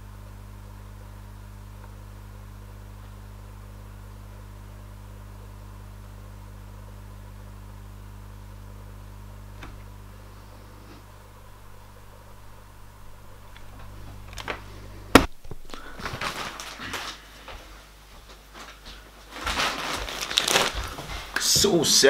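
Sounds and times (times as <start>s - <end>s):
low electrical hum with hiss: 0.0s - 22.0s.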